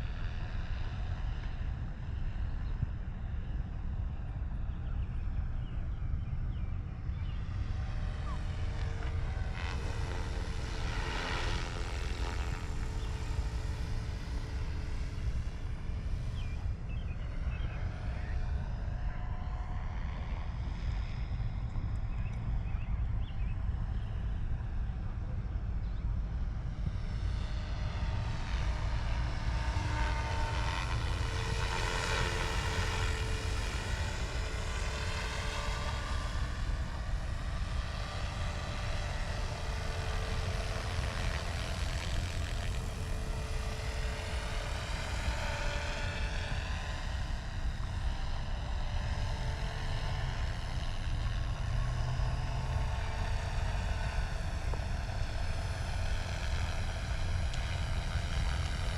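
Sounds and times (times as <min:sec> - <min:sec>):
helicopter engine and rotor drone: 0:00.0 - 0:58.9.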